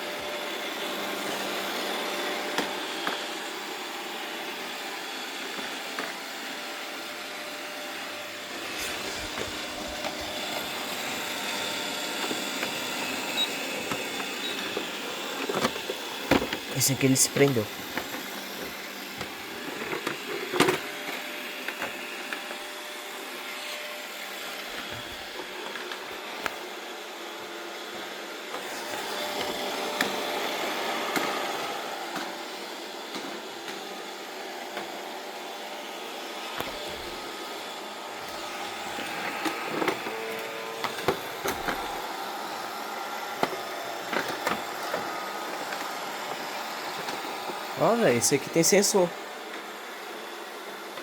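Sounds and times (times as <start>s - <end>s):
robot vacuum cleaner whirring: 0.0s - 51.0s.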